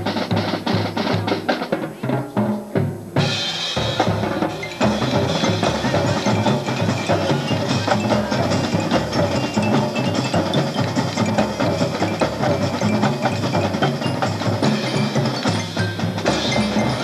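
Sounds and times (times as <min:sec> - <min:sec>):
bass and snare drums: 0:00.0 - 0:17.0
marching band playing: 0:00.0 - 0:17.0.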